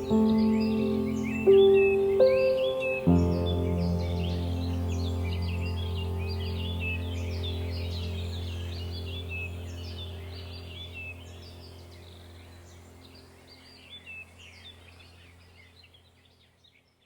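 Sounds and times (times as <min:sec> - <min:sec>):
steady low drone: 0:00.0 - 0:15.6
birds chirping and twittering: 0:00.0 - 0:17.0.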